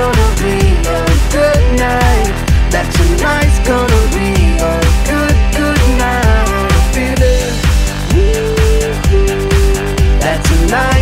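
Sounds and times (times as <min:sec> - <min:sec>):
pop dance music: 0:00.0 - 0:11.0.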